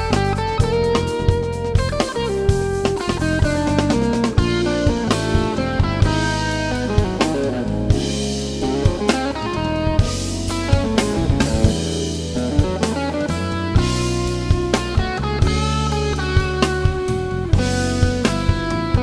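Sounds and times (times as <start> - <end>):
bass guitar: 0.0 - 19.0
drum kit: 0.0 - 19.0
electric guitar: 0.0 - 19.0
keyboards: 0.0 - 19.0.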